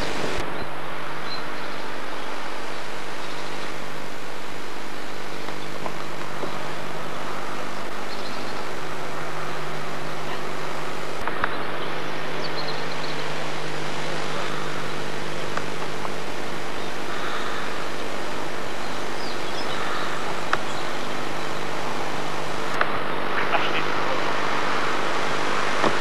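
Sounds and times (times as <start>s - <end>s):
river water rushing: 0.0s - 2.0s, 5.9s - 26.0s
faint electrical hum: 0.0s - 26.0s.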